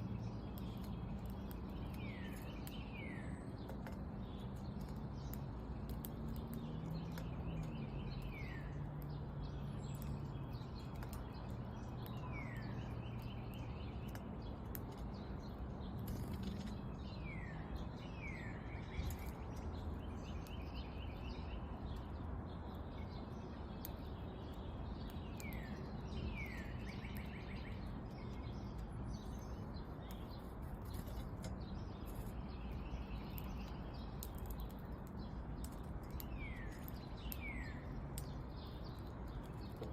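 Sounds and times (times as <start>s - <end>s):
songbird trilling song: 0.0s - 39.9s.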